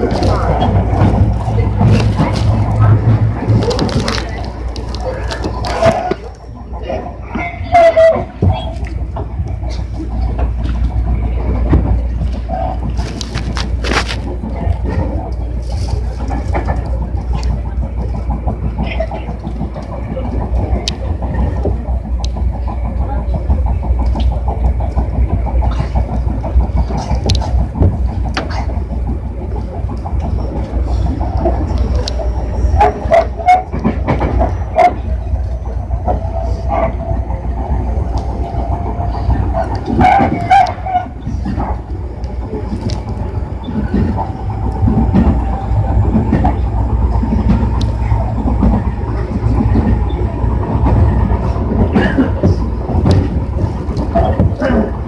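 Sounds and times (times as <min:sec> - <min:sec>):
electric train rumbling: 0:00.0 - 0:55.0
wheels clacking over rail joints: 0:00.0 - 0:55.0.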